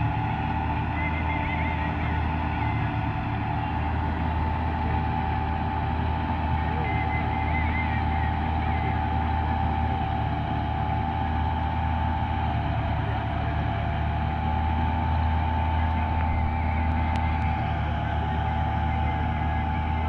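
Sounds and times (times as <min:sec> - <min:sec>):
combine harvester engine hum: 0:00.0 - 0:20.0
machine whine: 0:00.0 - 0:20.0.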